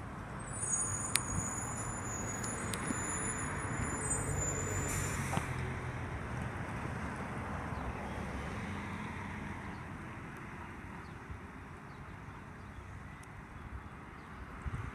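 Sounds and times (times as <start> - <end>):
low hum and road noise: 0.0 - 14.9.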